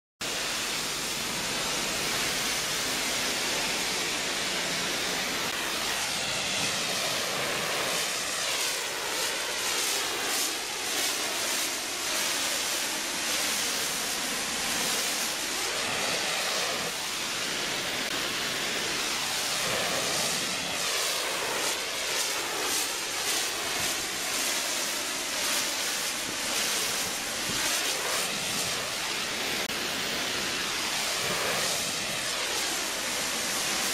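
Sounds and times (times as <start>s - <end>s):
pressure washer spraying metal: 0.2s - 33.9s.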